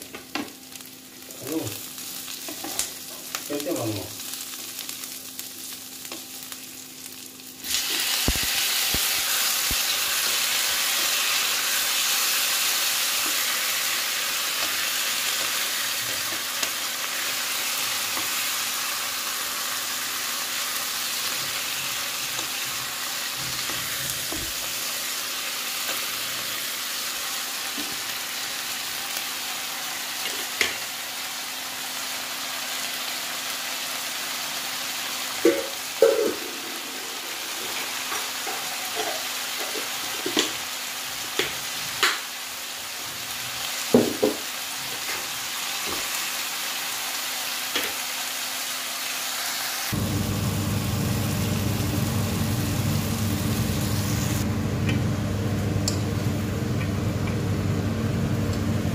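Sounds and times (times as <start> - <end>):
vegetables frying in oil: 0.0 - 58.9.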